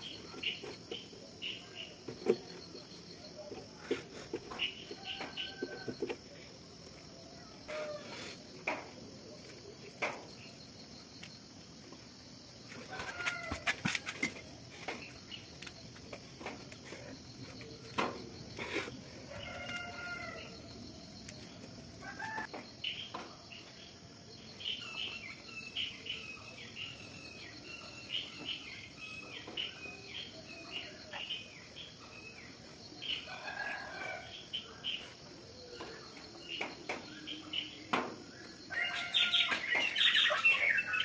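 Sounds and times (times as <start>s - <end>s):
night insects trilling: 0.0s - 41.0s.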